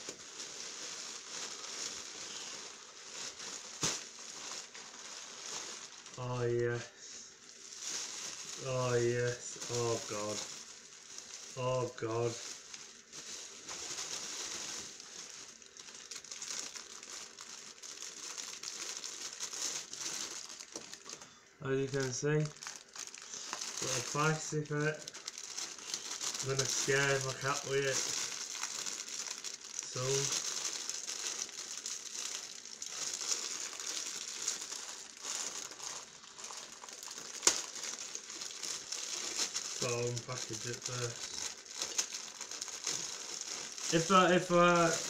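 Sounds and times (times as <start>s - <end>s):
plastic packaging crinkling: 0.0s - 45.0s.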